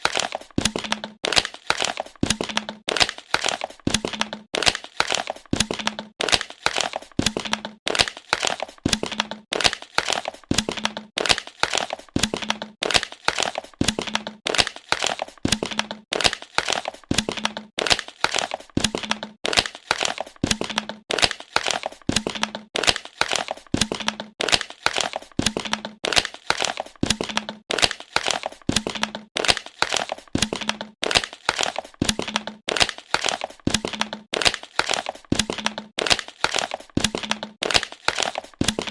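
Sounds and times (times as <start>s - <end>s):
plastic bottle crinkling: 0.0s - 38.9s.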